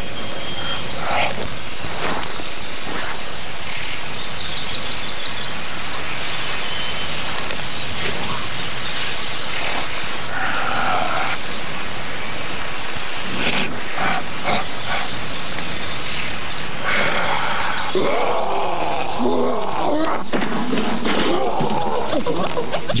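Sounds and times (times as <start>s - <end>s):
background hiss: 0.0s - 23.0s
birds chirping in trills: 0.0s - 23.0s.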